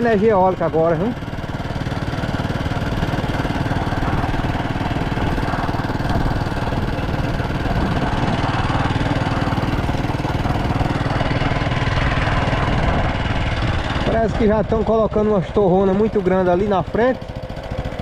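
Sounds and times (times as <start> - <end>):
small vehicle engine running: 0.0 - 18.0.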